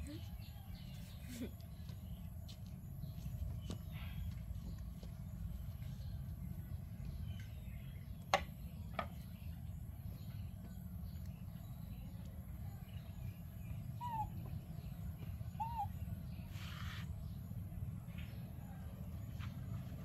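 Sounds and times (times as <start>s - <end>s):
steady low rumble: 0.0s - 16.5s.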